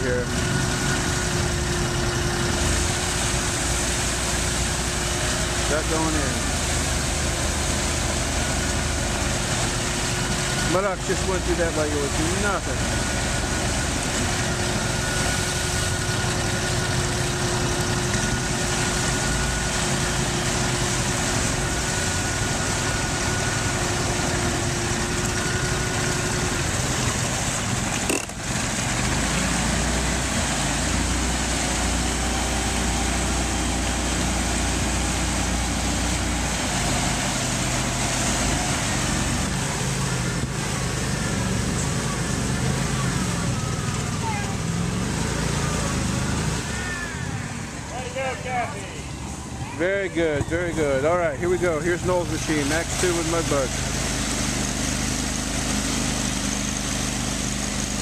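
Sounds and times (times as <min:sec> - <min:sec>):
engine running: 0:00.0 - 0:58.0
steady whine: 0:00.0 - 0:58.0.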